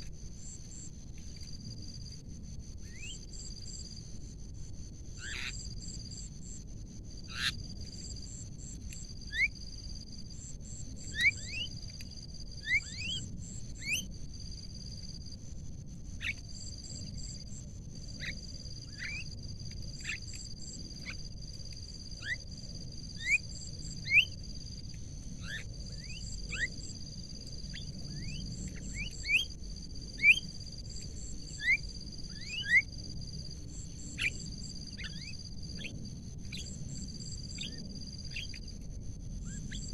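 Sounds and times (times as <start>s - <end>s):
pulsing insect trill: 0.0s - 39.9s.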